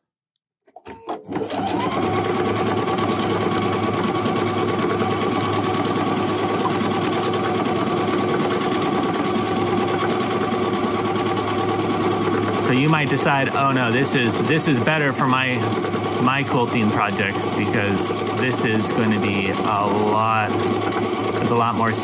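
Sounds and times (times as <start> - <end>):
sewing machine running: 1.2 - 22.0.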